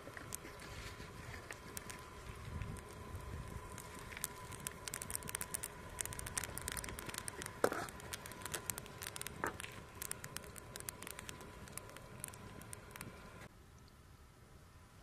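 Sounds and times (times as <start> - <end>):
seeds popping on hot embers: 0.0 - 13.5.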